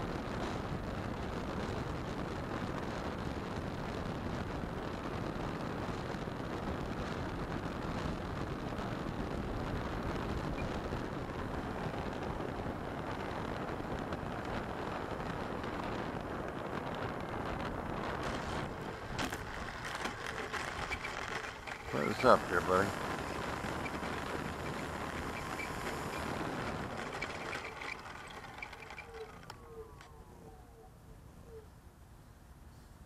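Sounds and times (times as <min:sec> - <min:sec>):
air rushing over microphone: 0:00.0 - 0:28.8.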